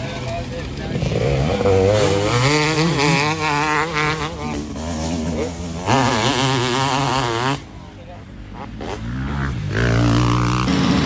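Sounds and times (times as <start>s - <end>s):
motocross bike engine buzzing: 0.0s - 11.0s.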